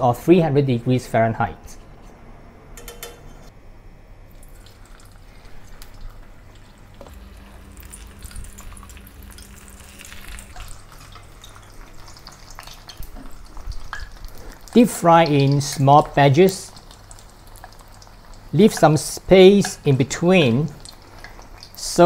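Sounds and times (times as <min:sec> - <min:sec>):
food deep-frying in oil: 0:04.3 - 0:22.0.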